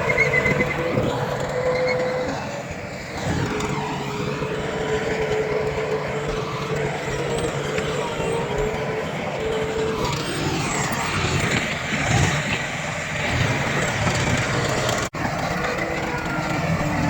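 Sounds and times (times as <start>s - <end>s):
heavy diesel machinery running: 0.0s - 17.0s
steady whine: 0.0s - 17.0s.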